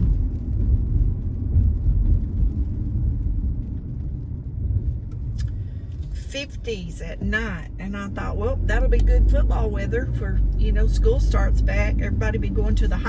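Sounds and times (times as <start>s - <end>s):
car interior road and engine rumble: 0.0s - 13.0s.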